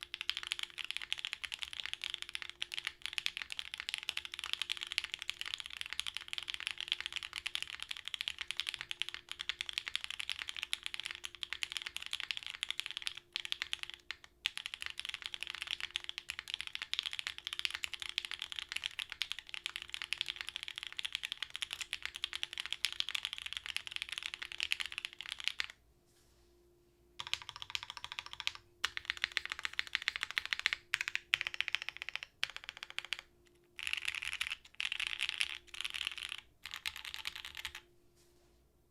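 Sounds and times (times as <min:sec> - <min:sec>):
fast typing on mechanical keyboard: 0:00.0 - 0:25.7, 0:27.2 - 0:37.8.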